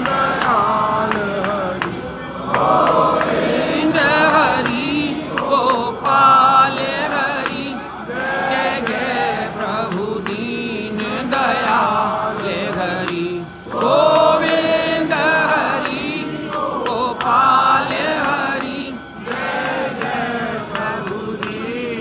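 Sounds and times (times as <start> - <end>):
voices singing a hymn: 0.0 - 22.0.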